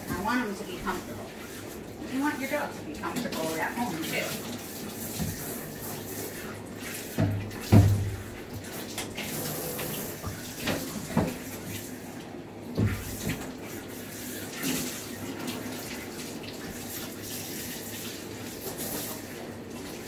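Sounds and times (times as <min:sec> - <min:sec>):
water spraying from a sprayer: 0:00.0 - 0:20.0.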